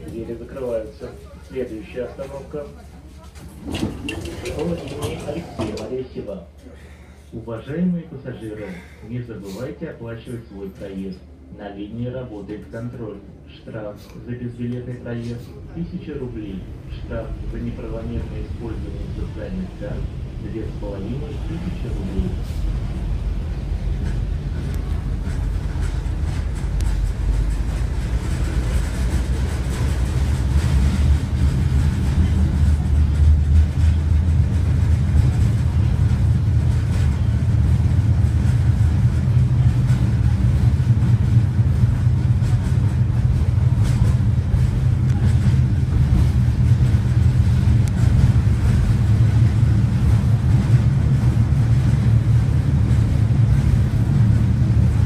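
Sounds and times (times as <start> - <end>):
tram rumbling on rails: 0.0 - 55.0.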